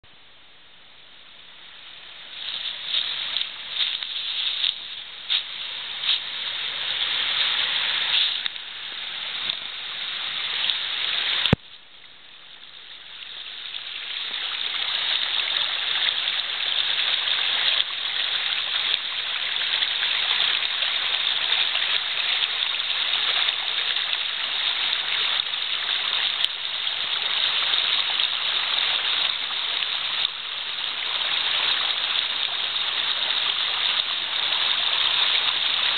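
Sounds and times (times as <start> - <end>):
waterfall rushing and splashing: 1.8 - 11.6, 13.0 - 35.9.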